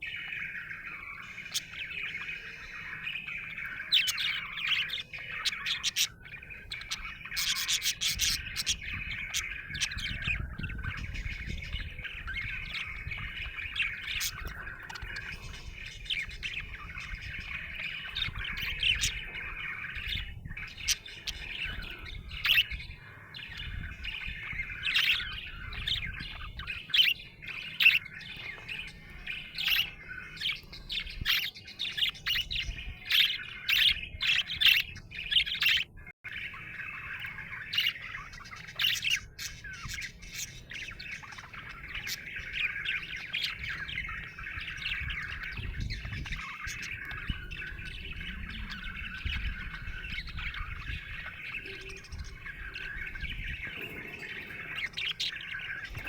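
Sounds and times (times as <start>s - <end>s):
budgerigar chattering and chirping: 0.0s - 56.0s.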